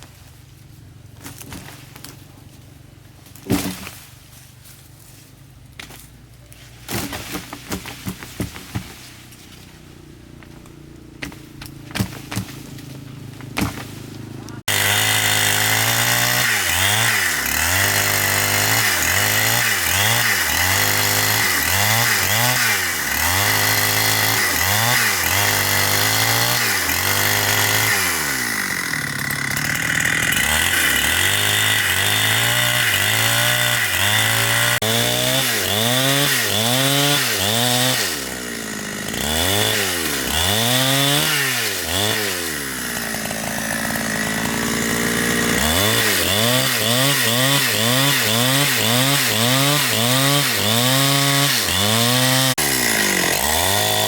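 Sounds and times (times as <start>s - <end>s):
chainsaw cutting wood: 3.4s - 4.1s, 9.8s - 54.0s.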